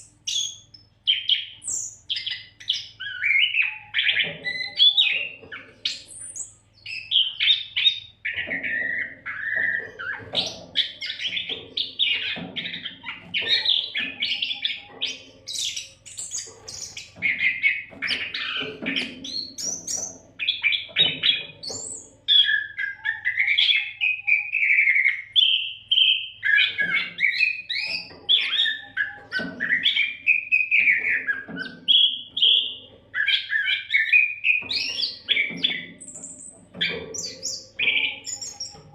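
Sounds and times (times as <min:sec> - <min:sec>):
bird singing whistles and chirps: 0:00.0 - 0:38.9.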